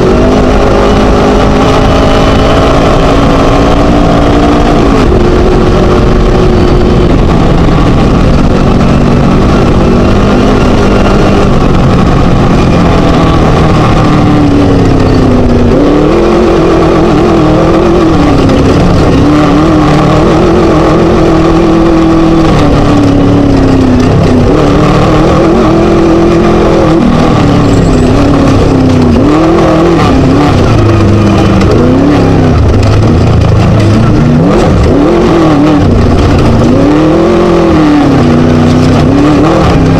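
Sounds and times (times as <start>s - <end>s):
race buggy engine running hard: 0.0s - 39.9s.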